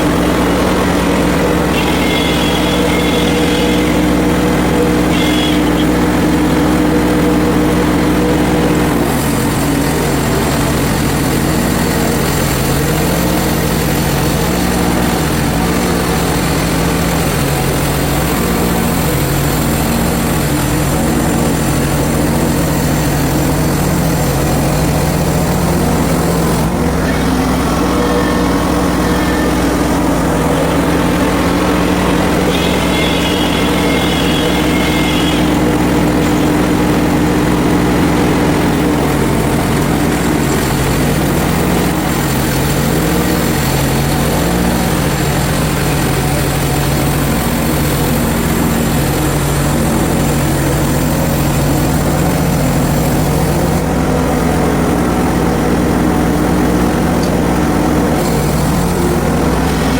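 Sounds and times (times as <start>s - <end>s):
sawmill engine running under load: 0.0s - 59.9s.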